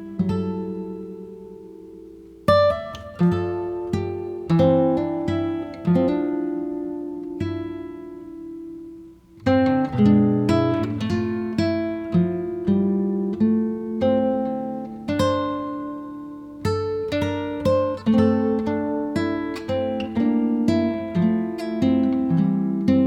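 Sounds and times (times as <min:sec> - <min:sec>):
plucked acoustic guitar melody: 0:00.0 - 0:23.0.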